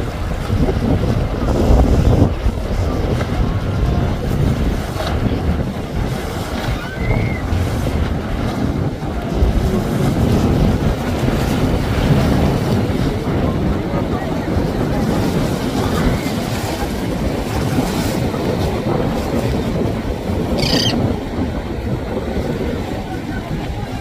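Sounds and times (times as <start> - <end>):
boat outboard engines: 0.0 - 24.0
choppy water washing: 0.0 - 24.0
wind buffeting microphone: 0.0 - 24.0.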